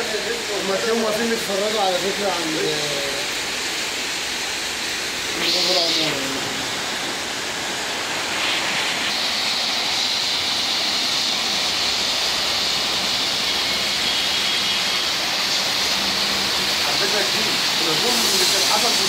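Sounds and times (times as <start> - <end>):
heavy rain on a street: 0.0 - 19.0.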